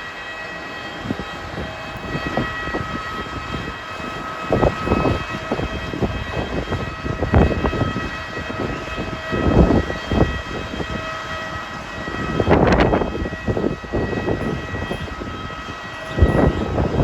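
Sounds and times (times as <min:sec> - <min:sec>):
jet airliner high whine: 0:00.0 - 0:17.0
wind gusting on microphone: 0:00.0 - 0:17.0.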